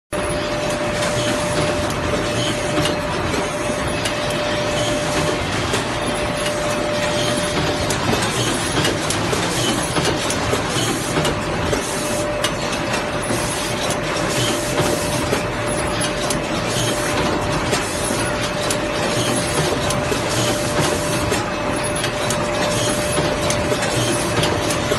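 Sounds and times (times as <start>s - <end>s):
machine clatter with sharp clicks: 0.2s - 24.9s.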